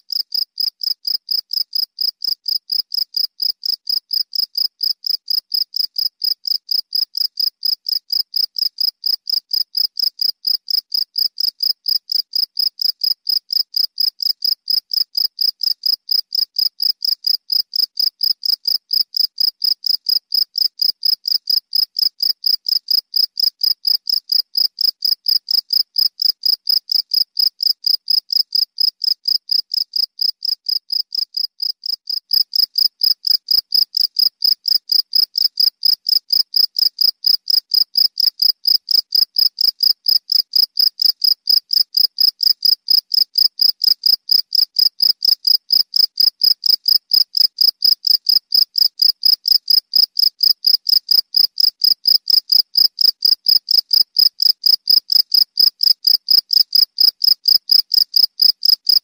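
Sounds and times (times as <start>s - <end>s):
cricket chirping: 0.1s - 59.0s.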